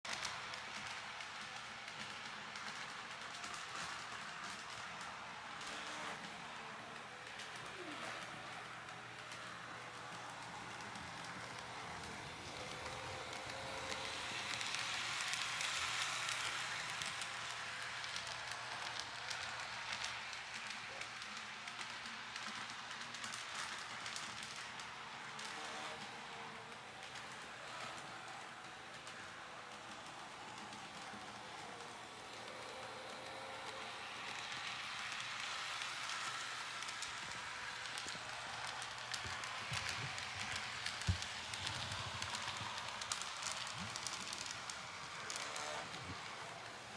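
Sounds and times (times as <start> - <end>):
model train running on track: 0.1 - 46.9.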